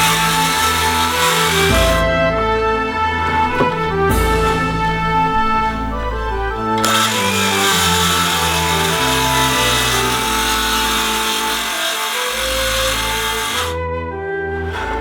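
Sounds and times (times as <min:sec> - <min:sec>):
circular saw cutting wood: 0:00.0 - 0:02.2, 0:02.8 - 0:13.8, 0:14.5 - 0:15.0
background music: 0:00.0 - 0:15.0.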